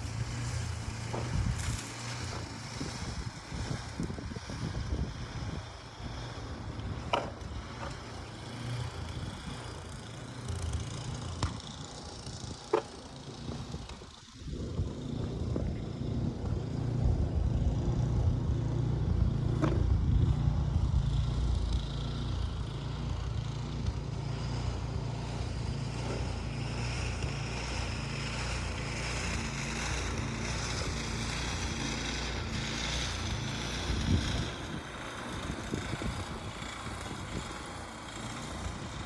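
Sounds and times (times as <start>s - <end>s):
engine rumbling: 0.0s - 39.0s.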